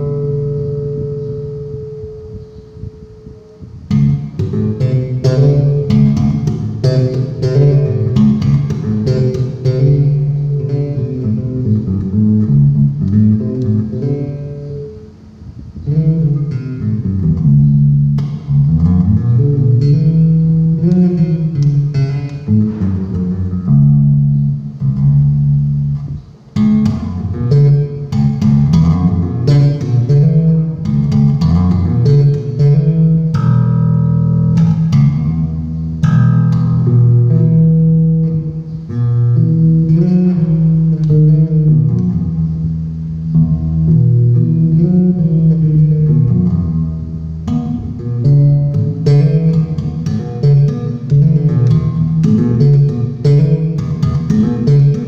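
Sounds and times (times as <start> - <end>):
electric bass guitar plucked: 0.0 - 55.0.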